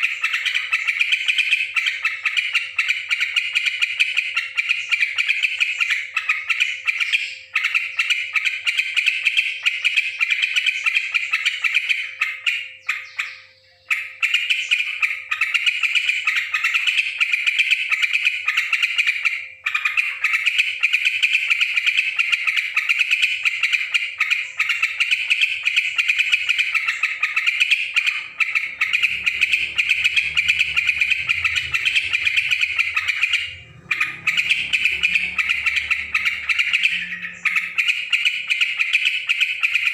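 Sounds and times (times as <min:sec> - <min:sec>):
bulbul chattering squawky calls: 0:00.0 - 0:39.9.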